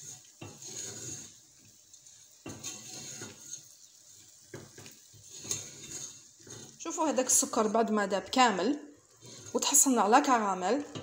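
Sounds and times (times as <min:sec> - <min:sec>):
spatula scraping saucepan: 0:00.0 - 0:11.0.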